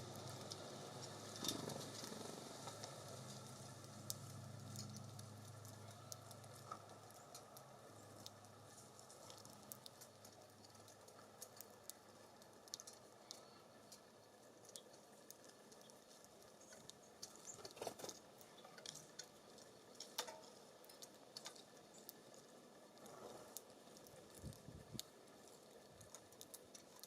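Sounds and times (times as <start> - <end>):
birds pecking on wooden feeder: 0.1 - 27.0.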